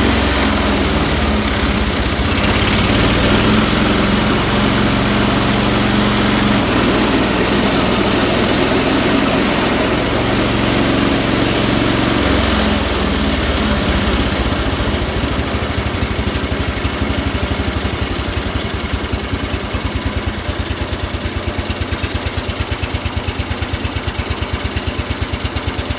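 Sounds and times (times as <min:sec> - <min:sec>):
small tractor engine running: 0:00.0 - 0:25.9.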